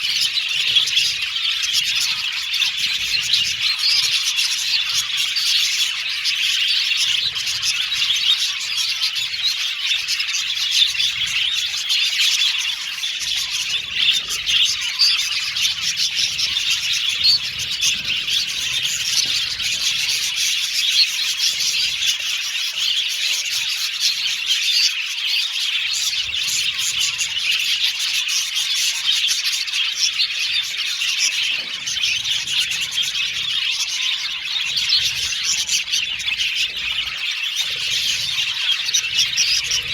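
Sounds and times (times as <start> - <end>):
bird squawks: 0.0 - 39.9
budgerigars chirping: 0.0 - 39.9.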